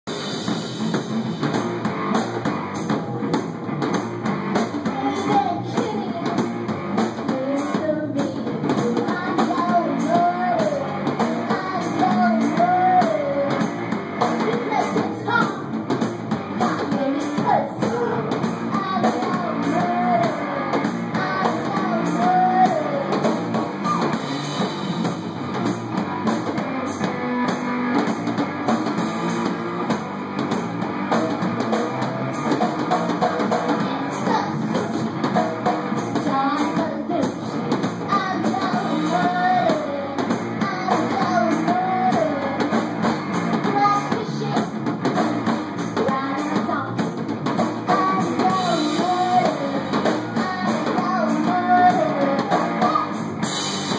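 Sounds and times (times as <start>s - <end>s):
drum kit: 0.0s - 53.9s
electric guitar: 0.1s - 53.9s.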